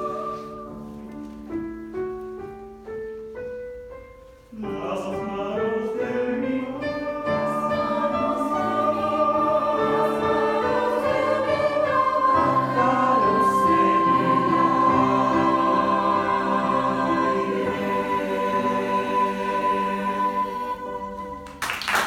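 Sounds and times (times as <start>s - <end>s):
youth choir singing: 0.0s - 0.8s, 4.6s - 21.8s.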